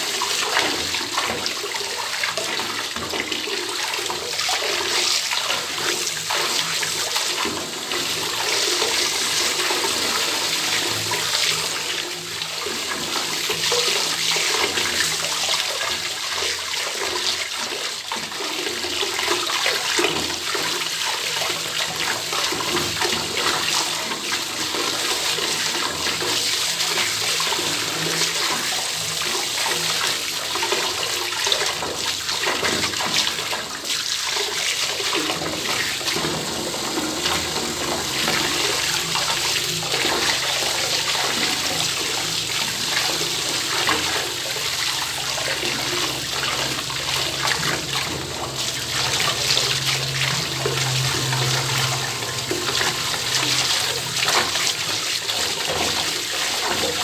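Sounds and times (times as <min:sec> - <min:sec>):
water pouring into bathtub: 0:00.0 - 0:57.0.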